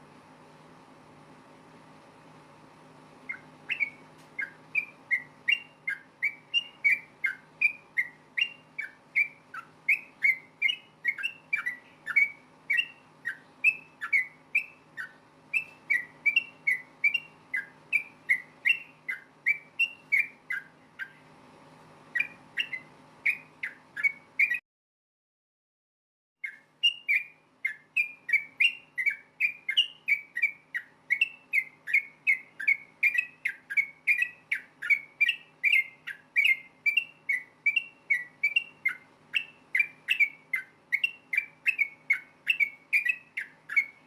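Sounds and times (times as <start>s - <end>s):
bird singing whistled notes: 3.3s - 21.3s, 22.1s - 24.6s, 26.4s - 44.0s.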